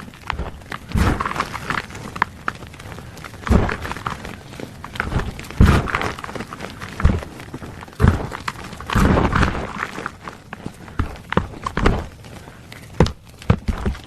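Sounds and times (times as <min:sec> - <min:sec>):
chalk being crushed: 0:00.0 - 0:14.0.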